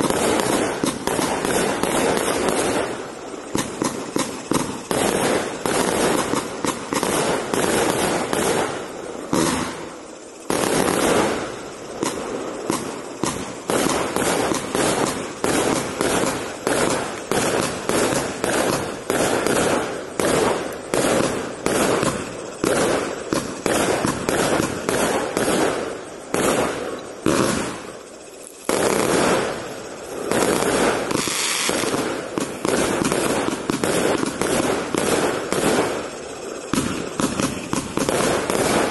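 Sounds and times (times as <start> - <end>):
fireworks barrage: 0.0 - 38.9.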